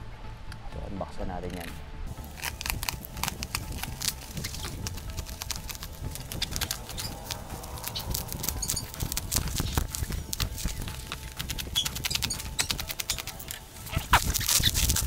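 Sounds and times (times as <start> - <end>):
bubble wrap crinkling: 2.1 - 15.0
scissors cutting plastic: 2.2 - 15.0.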